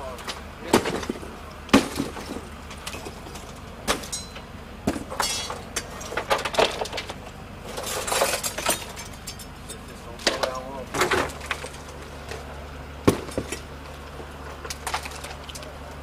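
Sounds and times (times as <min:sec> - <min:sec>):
engine idling hum: 0:00.0 - 0:16.0
debris knocking and clinking: 0:00.7 - 0:15.8.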